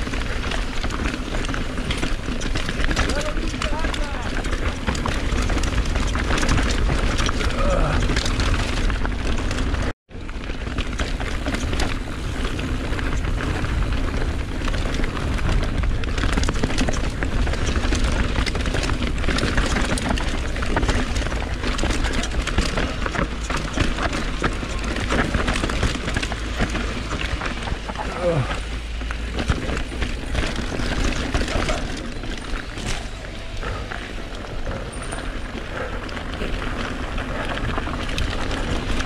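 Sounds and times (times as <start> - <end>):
bike chain and frame clattering: 0.0 - 39.0
tyres on dirt: 0.0 - 39.0.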